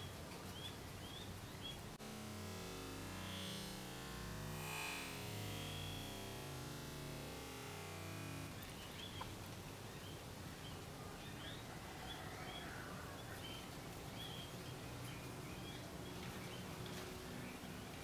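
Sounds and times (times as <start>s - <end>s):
small birds chirping: 0.0s - 2.0s, 2.6s - 18.0s
low steady background hiss: 0.0s - 18.0s.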